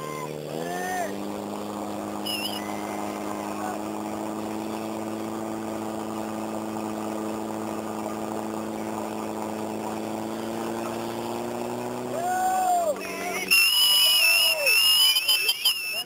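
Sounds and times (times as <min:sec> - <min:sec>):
pump engine running: 0:00.0 - 0:16.0.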